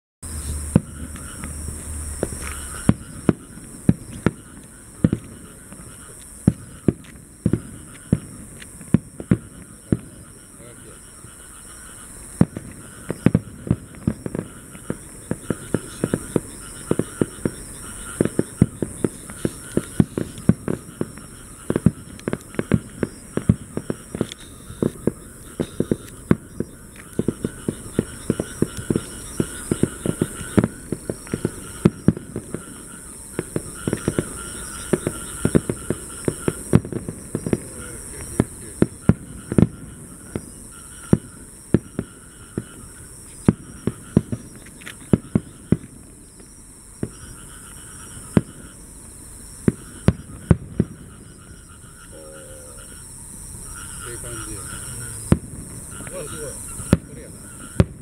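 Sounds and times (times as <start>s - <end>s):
fireworks bursting with sharp bangs: 0.2s - 58.0s.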